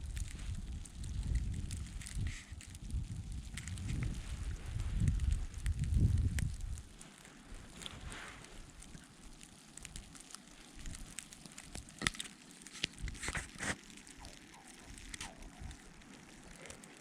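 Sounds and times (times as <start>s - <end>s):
wind rumbling on microphone: 0.0s - 12.0s, 12.8s - 17.0s
crackles and clicks: 0.0s - 17.0s.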